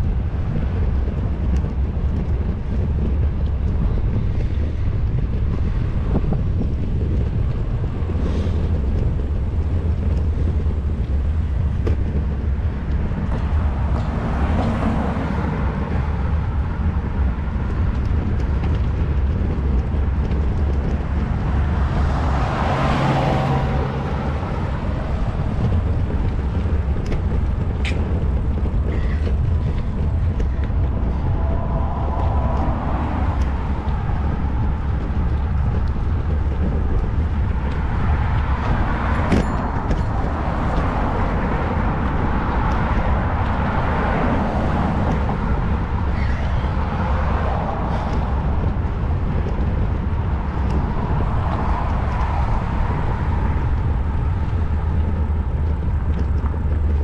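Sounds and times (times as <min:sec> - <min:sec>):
road traffic: 0:00.0 - 0:57.0
wind rumble on microphone: 0:00.0 - 0:57.0.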